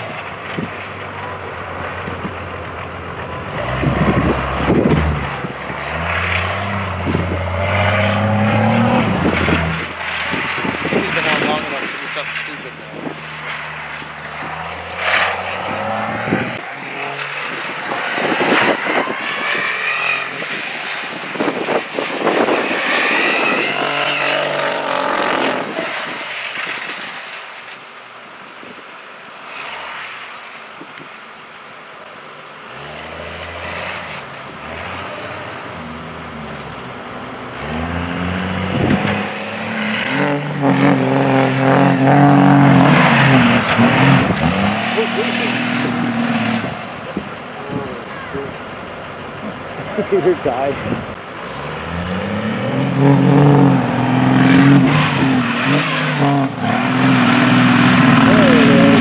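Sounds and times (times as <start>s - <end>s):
truck diesel engine revving: 0.0s - 28.1s, 31.4s - 59.0s.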